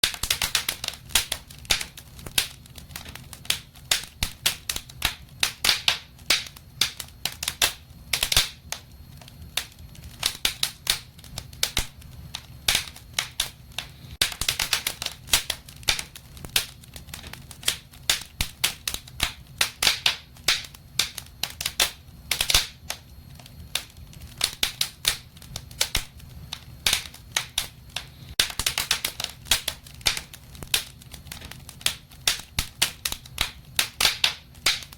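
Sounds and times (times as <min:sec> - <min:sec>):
low rumble of flames: 0:00.0 - 0:34.9
wood fire crackling and popping: 0:00.0 - 0:34.9.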